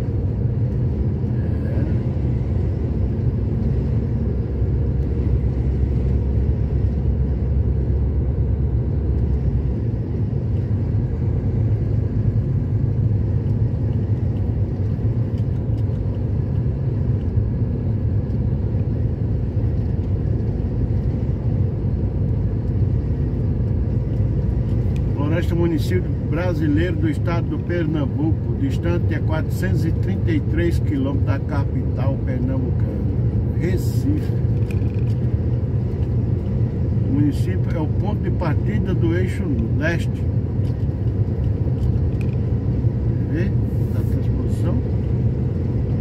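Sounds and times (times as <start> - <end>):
car engine rumble: 0.0 - 46.0
tyre road noise: 0.0 - 46.0.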